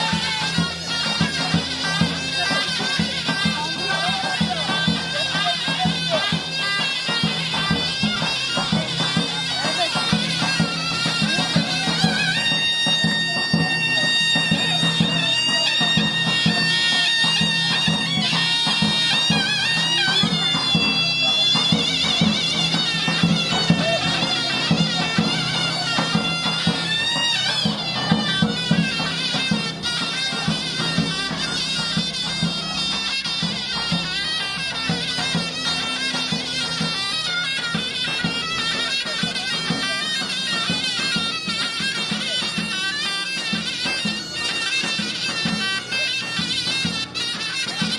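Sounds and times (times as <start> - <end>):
drumbeats: 0.0 - 47.9
shrill reed pipe melody: 0.0 - 47.9.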